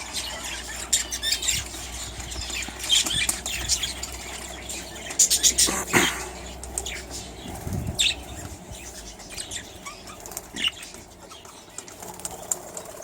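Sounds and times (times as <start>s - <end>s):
budgies chirping: 0.0s - 13.0s.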